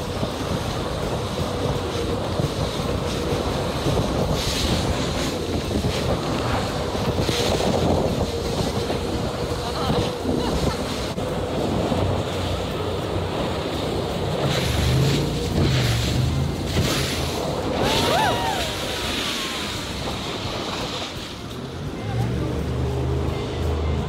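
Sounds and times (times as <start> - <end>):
boat and water rushing: 0.0 - 24.0
wind buffeting microphone: 0.0 - 24.0.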